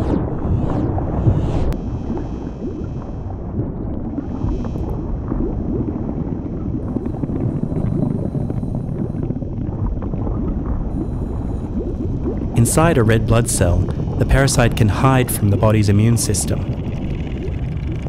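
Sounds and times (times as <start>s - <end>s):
crackling texture: 0.0s - 18.0s
low dense rumbling ambience: 0.0s - 18.0s.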